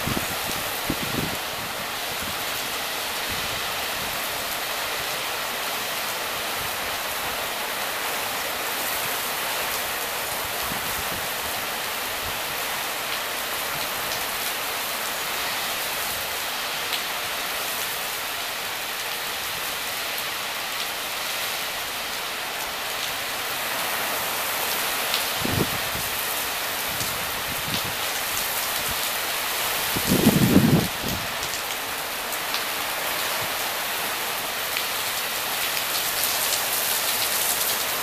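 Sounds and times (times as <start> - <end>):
heavy rain hissing: 0.0 - 38.0
wind gusting through trees: 0.0 - 38.0.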